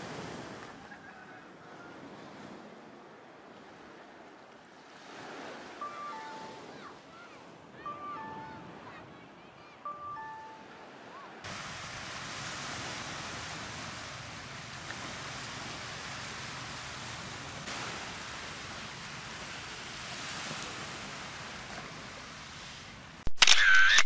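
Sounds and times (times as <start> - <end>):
small waves on sandy beach: 0.0 - 23.2
wind: 0.0 - 24.0.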